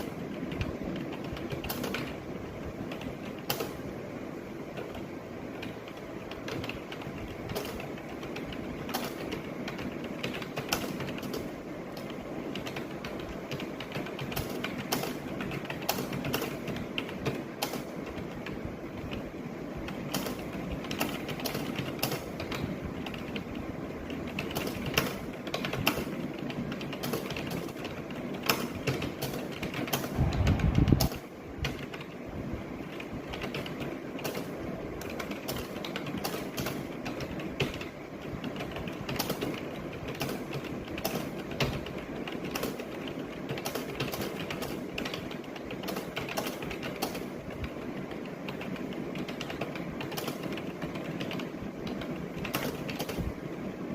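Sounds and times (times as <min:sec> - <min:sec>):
keyboard typing: 0:00.0 - 0:04.0, 0:04.6 - 0:53.5.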